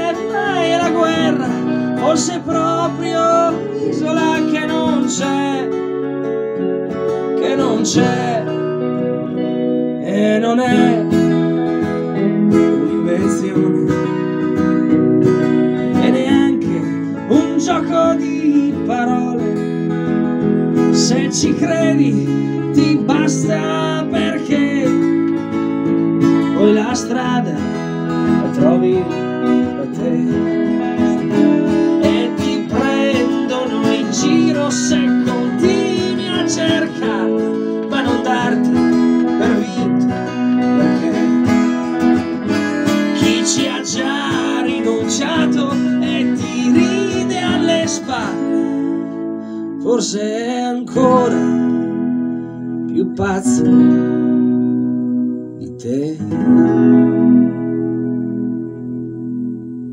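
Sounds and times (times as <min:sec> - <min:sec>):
acoustic guitar strumming: 0:00.0 - 0:59.9
electric guitar lead lines: 0:00.0 - 0:59.9.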